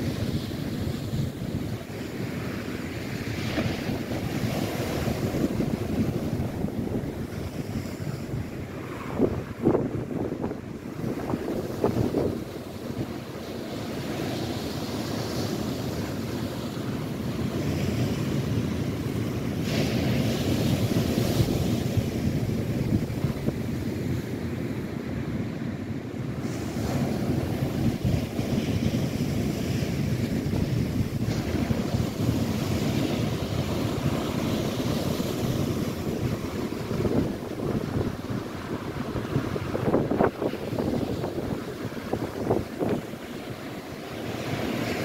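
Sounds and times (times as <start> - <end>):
waves breaking on the shore: 0.0 - 45.0
wind buffeting the microphone: 0.0 - 45.0.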